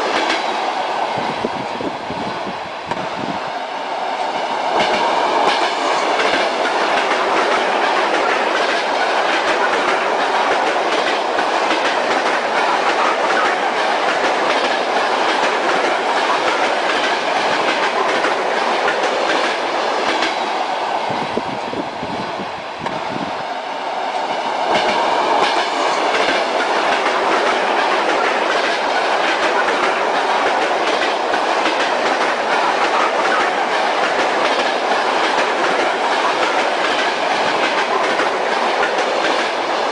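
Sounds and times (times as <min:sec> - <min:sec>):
train wheels clickety-clack: 0:00.0 - 0:01.8, 0:02.9 - 0:03.3, 0:04.0 - 0:21.5, 0:24.0 - 0:39.9
railway carriage rumble: 0:00.0 - 0:39.9.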